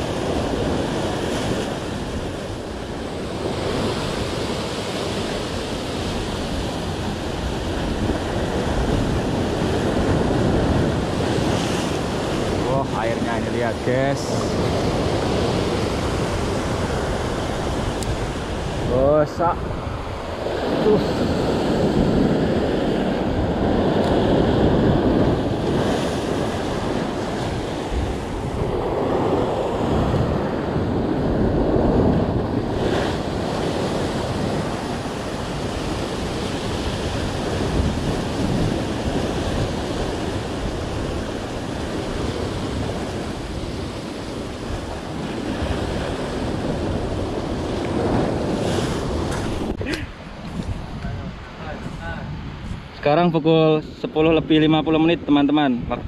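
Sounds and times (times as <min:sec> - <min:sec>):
surf breaking on rocks: 0:00.0 - 0:52.1
wind buffeting microphone: 0:00.0 - 0:56.0.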